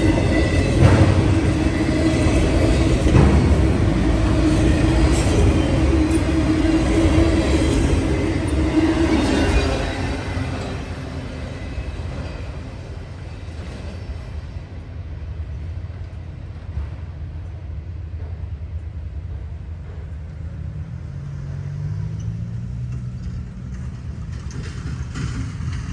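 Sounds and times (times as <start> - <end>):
low train rumble: 0.0 - 25.9
train wheels on rails: 0.0 - 25.9.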